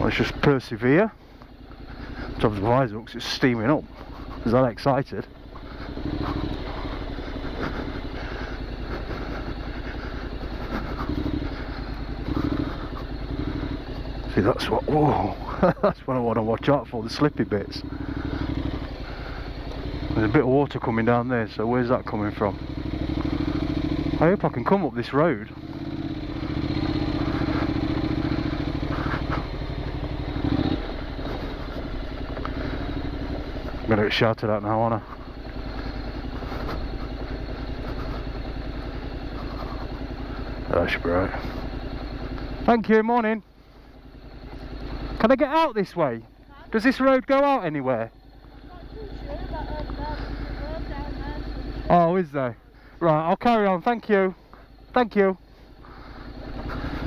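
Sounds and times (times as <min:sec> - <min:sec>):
motorcycle engine running at low revs: 0:00.0 - 0:57.0.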